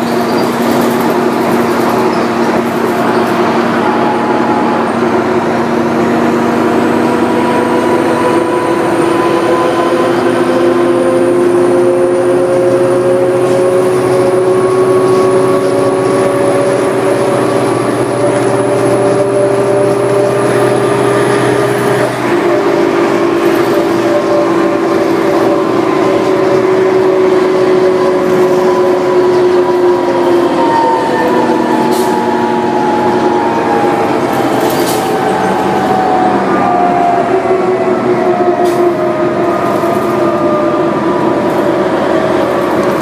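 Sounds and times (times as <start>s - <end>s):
bus diesel engine: 0.0s - 43.0s.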